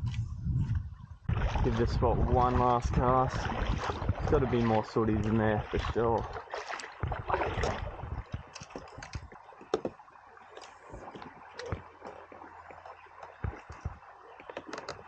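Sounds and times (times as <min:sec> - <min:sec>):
faint water: 0:00.0 - 0:15.0.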